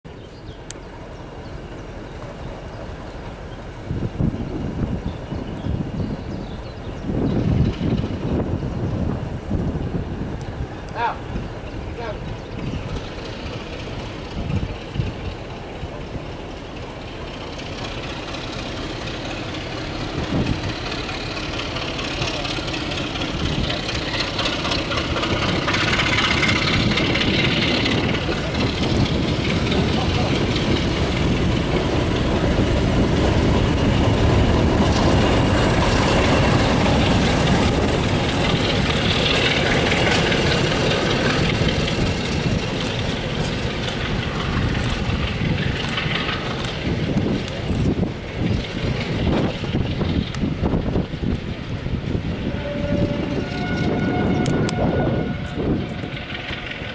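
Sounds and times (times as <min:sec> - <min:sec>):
coach wheels rumbling on rails: 0:00.0 - 0:56.9
diesel locomotive engines: 0:00.0 - 0:56.9.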